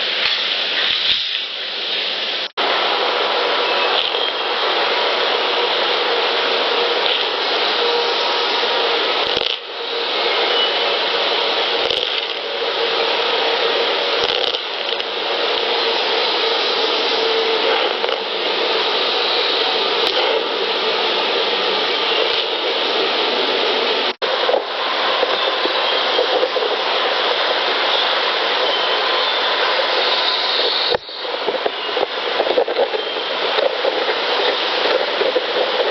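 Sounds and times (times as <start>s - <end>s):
field recorder hiss: 0.0s - 35.9s.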